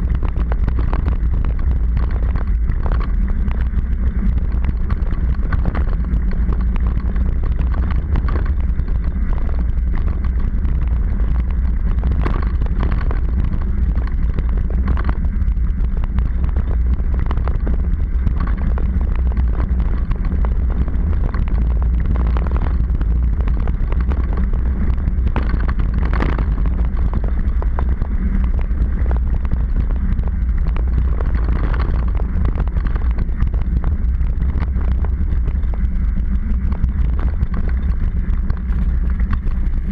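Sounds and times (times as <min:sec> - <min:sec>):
clicks and rattles: 0:00.0 - 0:39.9
tyre noise on tarmac: 0:00.0 - 0:39.9
wind rumble on microphone: 0:00.0 - 0:39.9.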